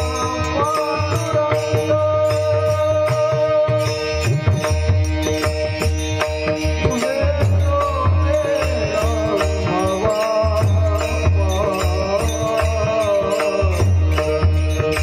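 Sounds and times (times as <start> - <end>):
instrumental drone: 0.0 - 15.0
man singing devotional melody: 0.0 - 15.0.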